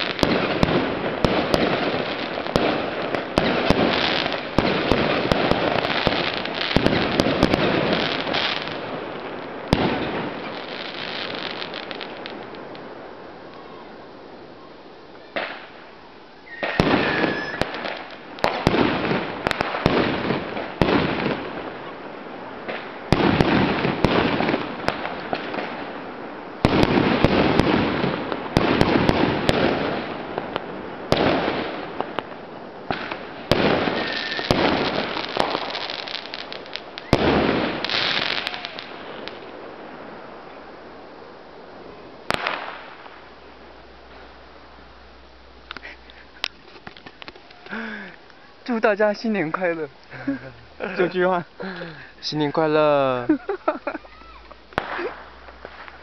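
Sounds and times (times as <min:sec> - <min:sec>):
fireworks bangs: 0:00.0 - 0:56.0.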